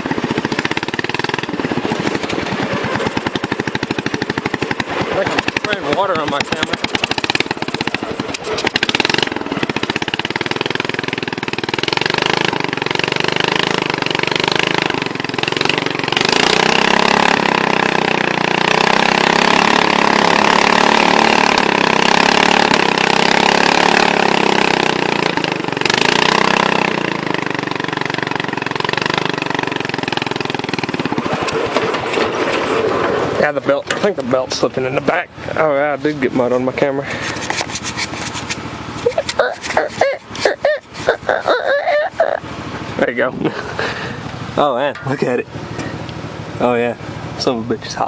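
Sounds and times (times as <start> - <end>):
lawn mower engine revving: 0.0 - 48.0.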